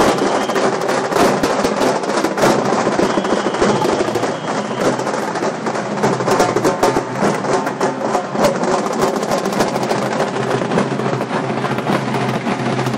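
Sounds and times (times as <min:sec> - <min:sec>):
loud rapid drumming: 0:00.0 - 0:12.9.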